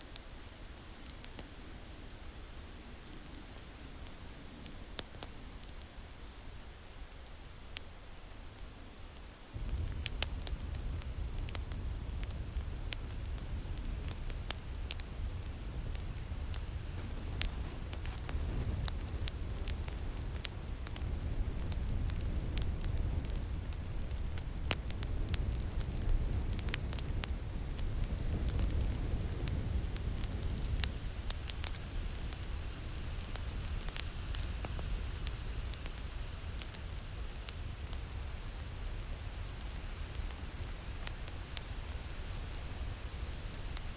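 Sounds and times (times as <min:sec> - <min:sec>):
low rumble of wind: 0:00.0 - 0:43.9
wood fire crackling and popping: 0:00.0 - 0:43.9.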